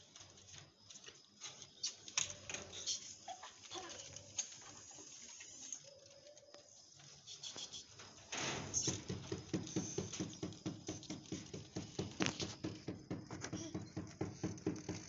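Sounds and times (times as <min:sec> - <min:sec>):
rabbits chewing leaves: 0:00.0 - 0:12.7.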